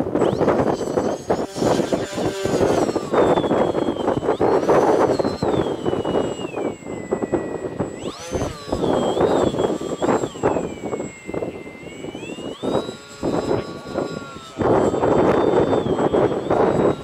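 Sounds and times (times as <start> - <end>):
model airplane motor whining: 0.0 - 17.0
wind buffeting microphone: 0.0 - 17.0.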